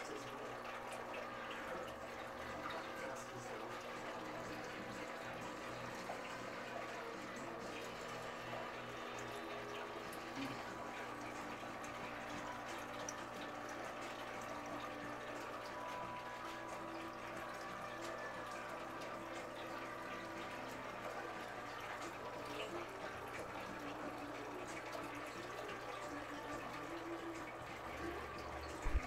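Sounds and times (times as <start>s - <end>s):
aquarium water trickling: 0.0s - 29.0s
low steady hum: 0.0s - 29.0s.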